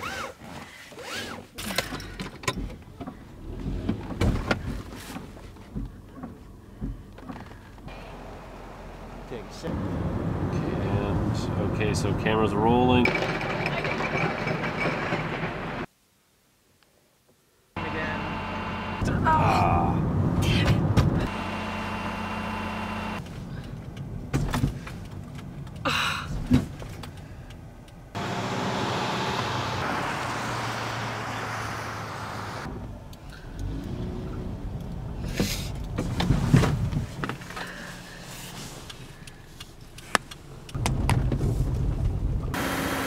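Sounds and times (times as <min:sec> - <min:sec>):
road noise: 0:00.0 - 0:15.9, 0:17.8 - 0:43.0
car engine hum: 0:01.5 - 0:13.1, 0:17.8 - 0:43.0.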